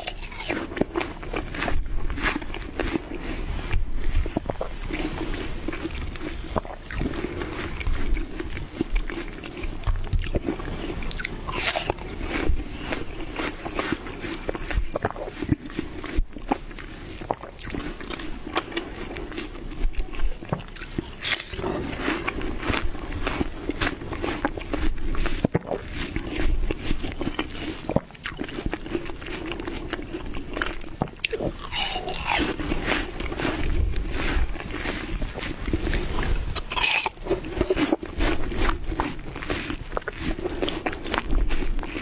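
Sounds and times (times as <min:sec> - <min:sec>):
biting and chewing watermelon: 0:00.0 - 0:42.0.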